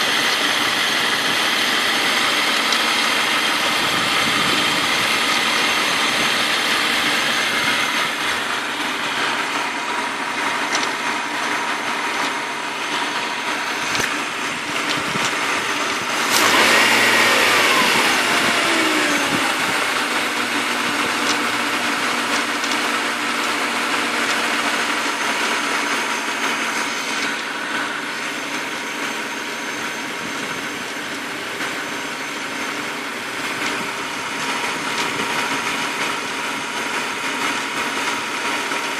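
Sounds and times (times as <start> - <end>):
car engine idling and revving: 0.0 - 38.9
engine rattle: 0.0 - 38.9.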